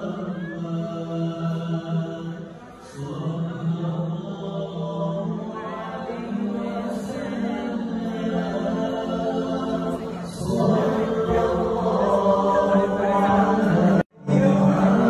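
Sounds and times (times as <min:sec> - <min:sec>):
group of voices chanting: 0:00.0 - 0:15.0.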